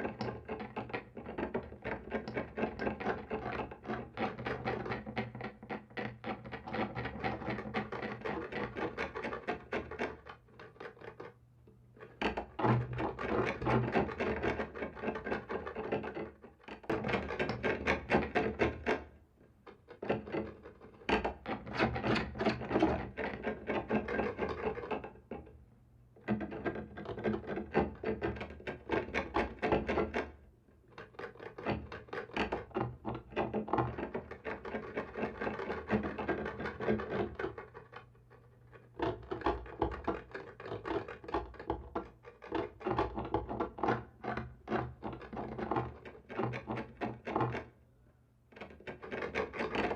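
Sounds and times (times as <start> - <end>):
scratching on a wall: 0.0 - 25.6, 26.2 - 47.8, 48.5 - 49.9.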